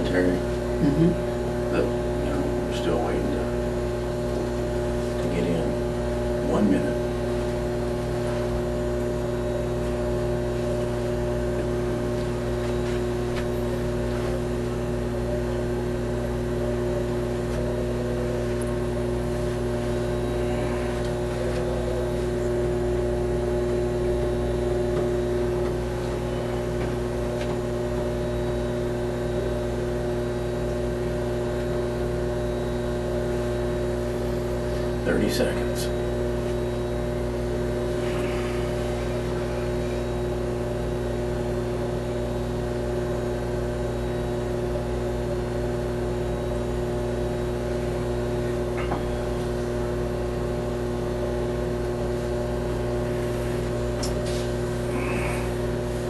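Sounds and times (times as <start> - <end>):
equipment hum with constant tones: 0.0 - 56.0.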